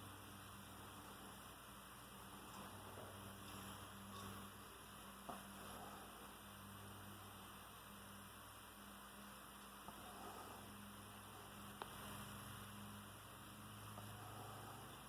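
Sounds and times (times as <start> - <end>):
faint hiss: 0.0 - 15.0
low electrical hum: 0.0 - 15.0.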